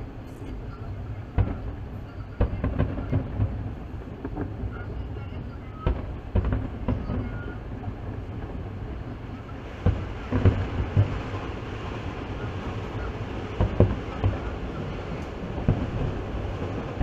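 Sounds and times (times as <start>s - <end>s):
distant fireworks booms: 0.0s - 17.0s
train and traffic rumble: 0.0s - 17.0s.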